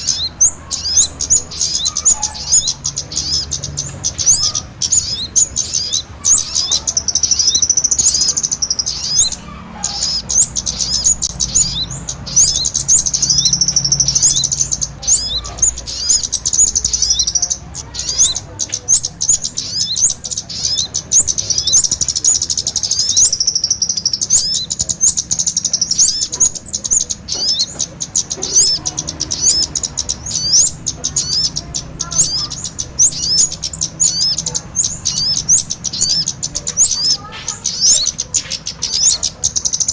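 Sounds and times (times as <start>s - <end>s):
rapid high-pitched bird chirps: 0.0s - 39.9s.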